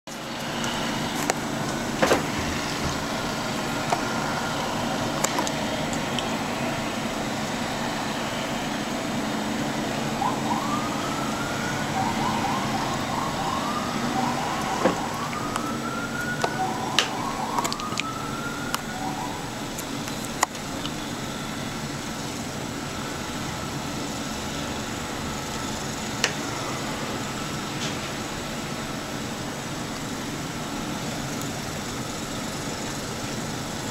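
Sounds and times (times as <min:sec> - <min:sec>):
siren wailing: 0:00.1 - 0:29.4
rushing background noise: 0:00.1 - 0:33.9.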